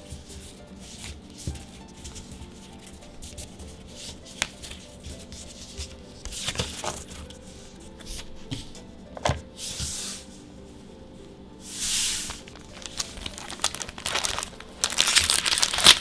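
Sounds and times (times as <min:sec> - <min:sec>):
trading cards rustling: 0:00.0 - 0:09.8, 0:12.2 - 0:16.0
soft background music: 0:00.0 - 0:16.0.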